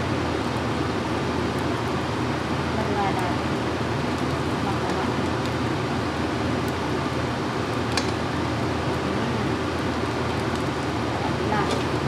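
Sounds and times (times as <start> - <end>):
rice frying in a wok: 0.0 - 12.0.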